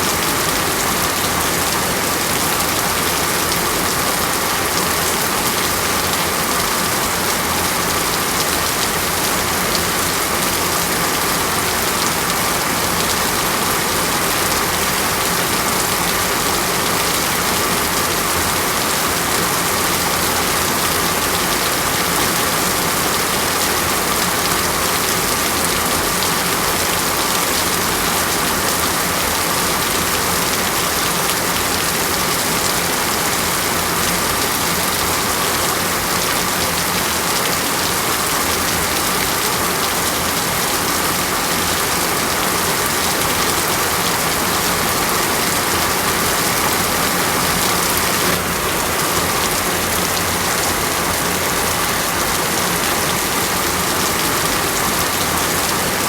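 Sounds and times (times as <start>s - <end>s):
heavy rain on a surface: 0.0s - 56.0s.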